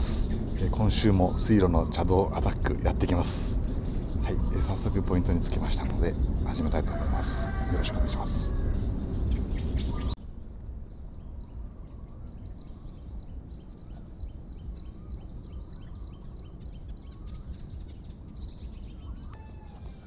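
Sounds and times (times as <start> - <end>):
bird chirping: 0.0 - 10.2, 10.8 - 20.0
low background rumble: 0.0 - 20.0.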